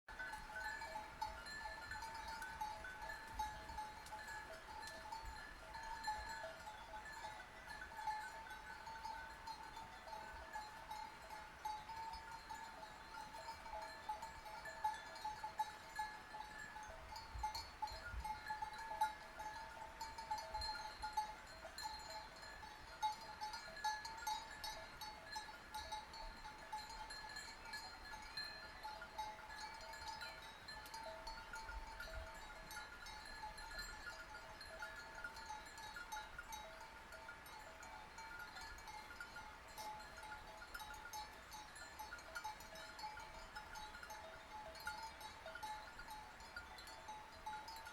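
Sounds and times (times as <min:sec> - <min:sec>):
sheep bells clanking: 0:00.1 - 0:47.9.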